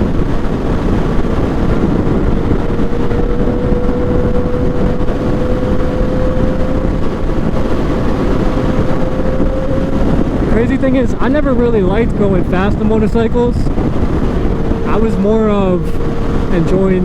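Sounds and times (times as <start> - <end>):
motorcycle engine running: 0.0 - 17.0
wind rushing on microphone: 0.0 - 17.0.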